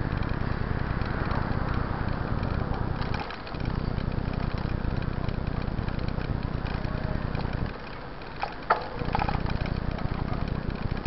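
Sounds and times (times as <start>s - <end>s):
road and bike rattle: 0.0s - 11.0s.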